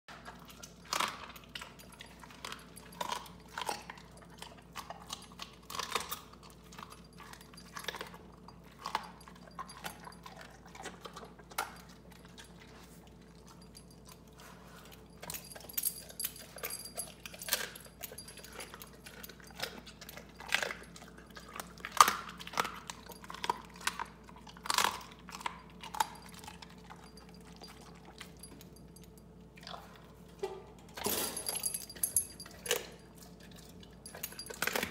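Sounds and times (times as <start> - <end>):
dog crunching bones: 0.1 - 29.8, 30.9 - 34.9.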